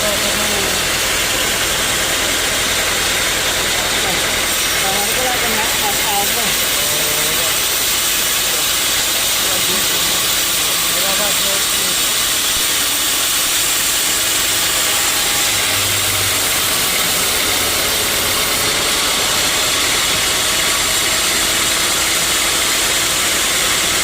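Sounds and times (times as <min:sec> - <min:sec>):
sawmill saw running: 0:00.0 - 0:24.0.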